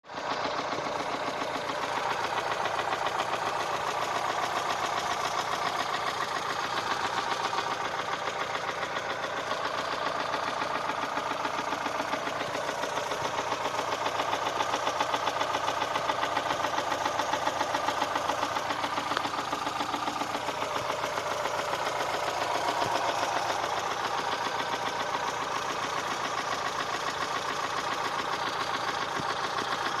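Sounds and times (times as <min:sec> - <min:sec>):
engine knocking: 0:00.0 - 0:30.0.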